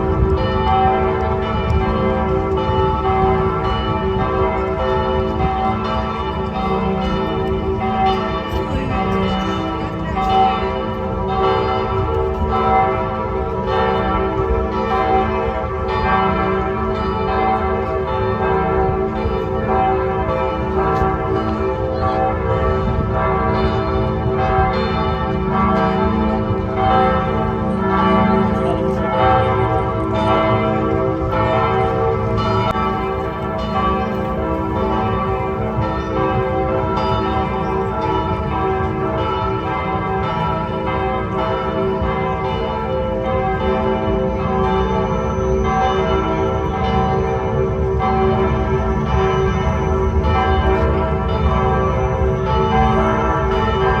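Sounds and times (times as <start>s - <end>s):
church bells ringing in a peal: 0.0s - 54.0s.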